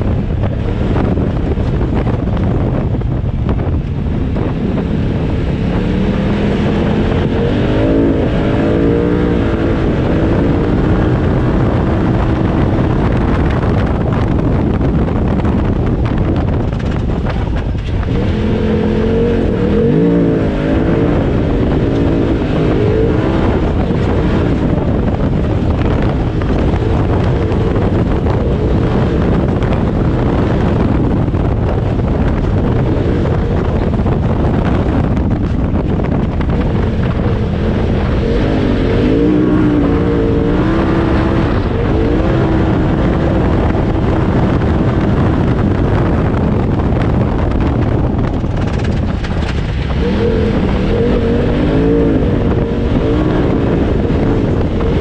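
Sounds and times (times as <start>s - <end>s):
vehicle engine revving: 0.0s - 55.0s
wind: 0.0s - 55.0s.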